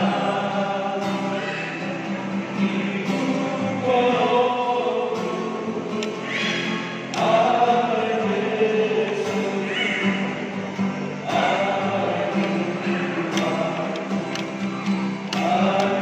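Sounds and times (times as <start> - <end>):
acoustic guitar: 0.0 - 16.0
men's choir singing a hymn: 0.0 - 16.0.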